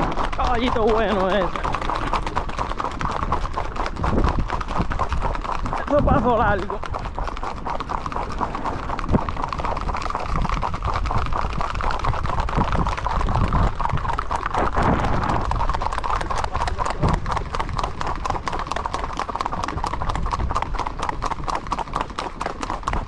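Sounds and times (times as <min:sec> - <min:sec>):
horse hooves clip-clopping on asphalt: 0:00.0 - 0:23.0.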